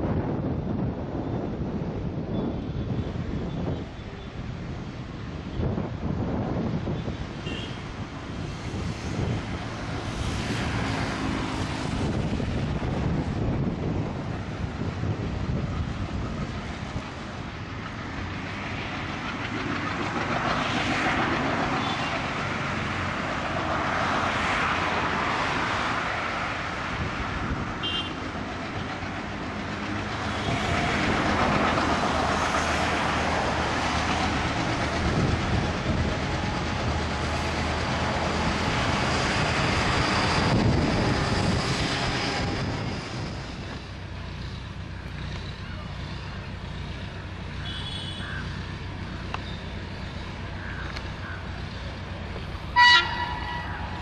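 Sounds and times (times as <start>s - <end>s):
train wheels rumbling on rails: 0.0s - 54.0s
diesel locomotive engine throbbing: 3.1s - 54.0s.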